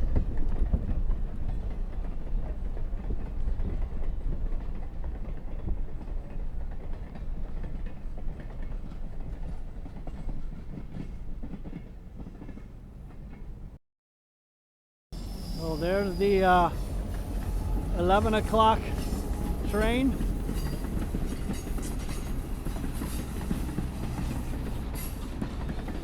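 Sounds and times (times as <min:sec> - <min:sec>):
train rumbling on track: 0:00.0 - 0:13.8, 0:15.2 - 0:26.0.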